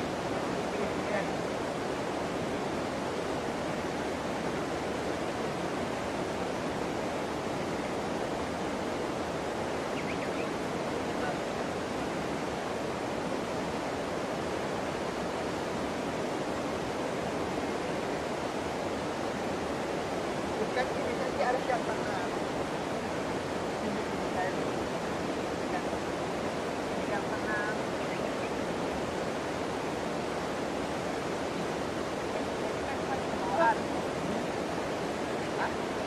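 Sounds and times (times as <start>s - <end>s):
flowing river water rushing: 0.0s - 36.0s.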